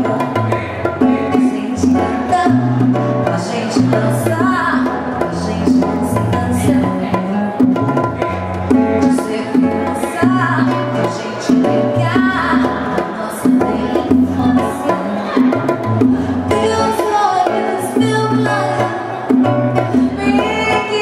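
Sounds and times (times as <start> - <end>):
hand percussion: 0.0 - 21.0
woman singing: 0.0 - 21.0.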